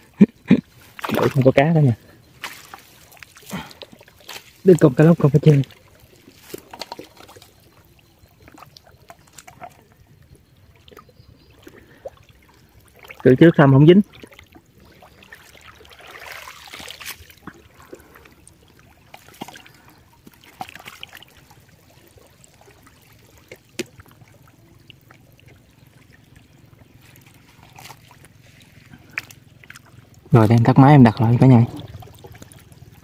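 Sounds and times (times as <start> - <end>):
water trickling and splashing: 0.0 - 33.0.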